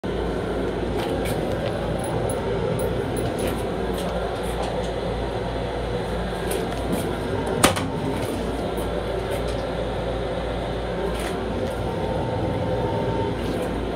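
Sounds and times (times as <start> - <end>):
railcar running and ventilation hum: 0.0 - 13.9.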